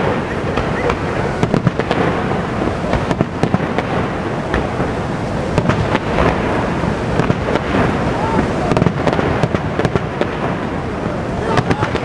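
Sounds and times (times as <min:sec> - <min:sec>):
fireworks bangs and crackling: 0:00.0 - 0:12.0
waterfall roaring: 0:00.0 - 0:12.0.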